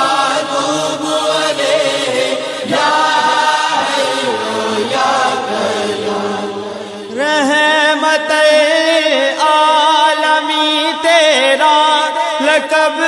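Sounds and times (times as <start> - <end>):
person chanting devotional song: 0.0 - 13.0.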